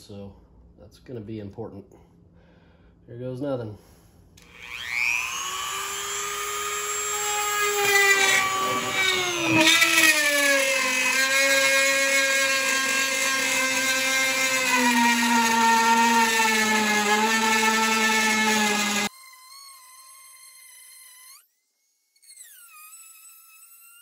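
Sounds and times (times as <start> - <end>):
rotary tool cutting plastic: 4.4 - 24.0.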